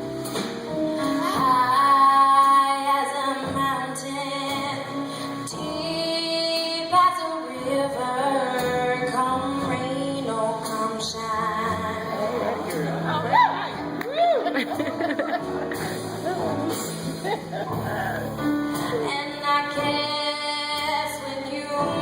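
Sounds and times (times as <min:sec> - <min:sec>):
jazz band playing: 0:00.0 - 0:05.0, 0:08.7 - 0:22.0
woman singing jazz: 0:00.9 - 0:15.1, 0:16.0 - 0:22.0.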